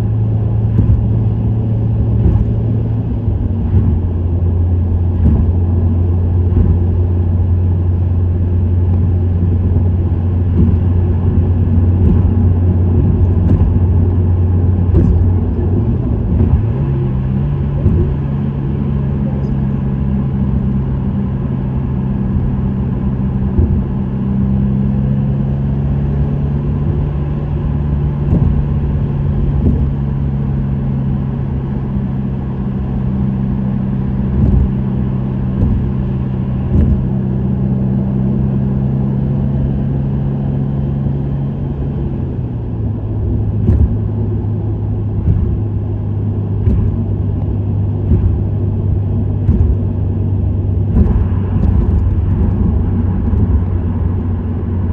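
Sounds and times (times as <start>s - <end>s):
short thumps: 0.0s - 7.7s, 8.9s - 20.0s, 22.3s - 39.8s, 42.1s - 54.2s
car engine cruising: 0.0s - 54.9s
low road rumble: 0.0s - 54.9s.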